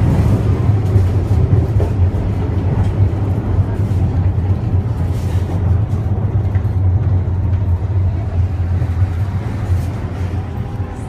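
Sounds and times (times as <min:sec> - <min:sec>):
railway car rumbling on track: 0:00.0 - 0:11.0.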